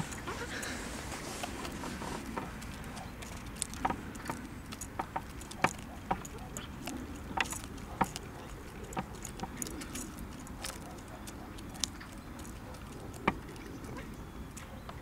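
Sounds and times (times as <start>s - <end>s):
chickens pecking on plastic: 0.0s - 15.0s.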